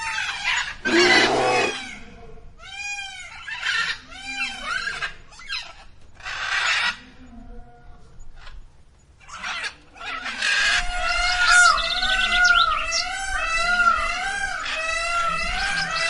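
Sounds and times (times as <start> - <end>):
chorus of whistling birds: 2.6 - 16.0.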